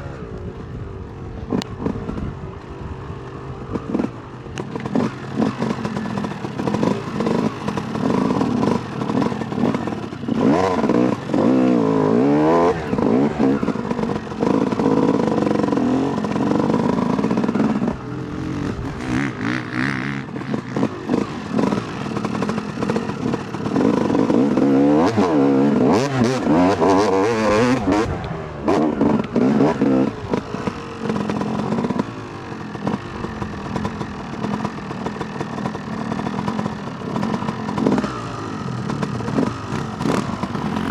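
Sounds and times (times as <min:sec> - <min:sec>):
dirt bike engine revving: 0:03.5 - 0:40.9.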